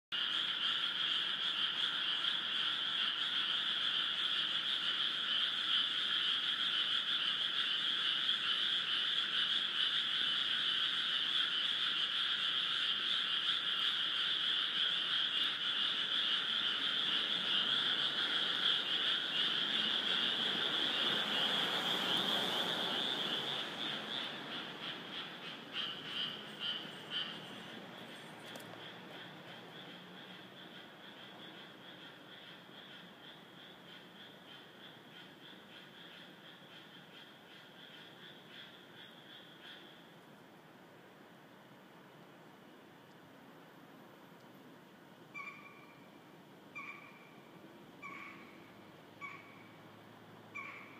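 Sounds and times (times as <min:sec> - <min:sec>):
chorus of frogs croaking: 0:00.1 - 0:43.8, 0:44.8 - 0:50.9.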